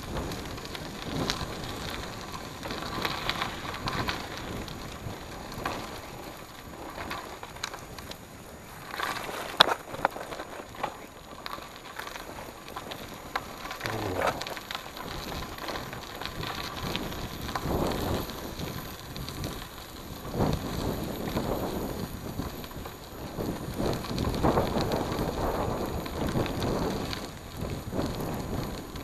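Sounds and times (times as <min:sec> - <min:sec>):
bike tyres crunching on gravel: 0:00.0 - 0:29.0.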